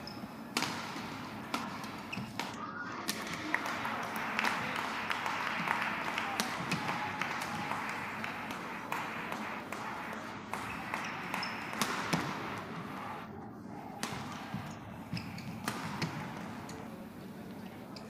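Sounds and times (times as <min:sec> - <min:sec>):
crowd murmur: 0:00.0 - 0:18.0.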